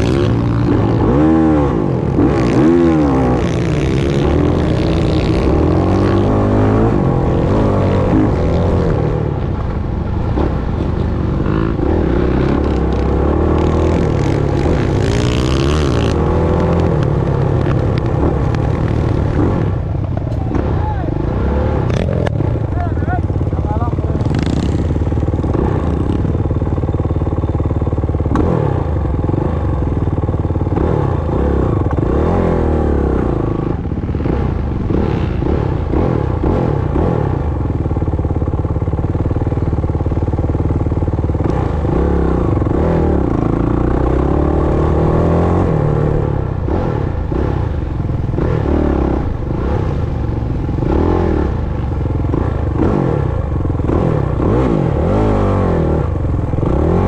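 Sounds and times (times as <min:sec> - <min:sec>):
off-road motorcycle engine revving: 0:00.0 - 0:57.0.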